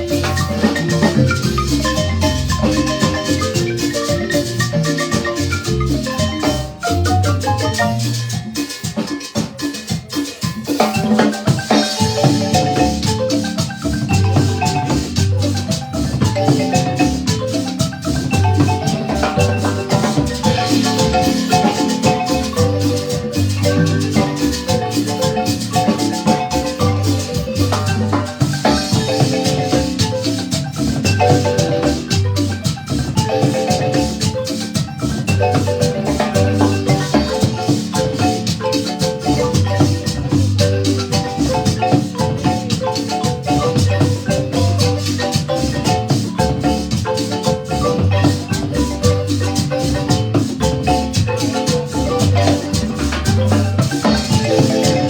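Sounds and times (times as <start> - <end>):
marimba melody: 0.0 - 55.0
shaker percussion: 0.0 - 55.0.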